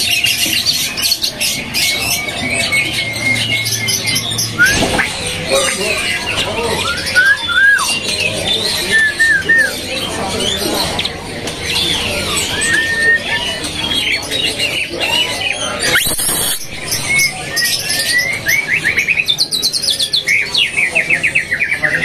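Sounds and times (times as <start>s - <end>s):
songbirds singing and trilling: 0.0s - 22.0s.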